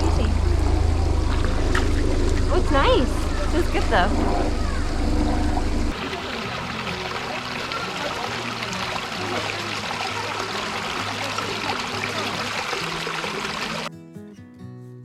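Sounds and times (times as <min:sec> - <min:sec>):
stream flowing over rocks: 0:00.0 - 0:13.9.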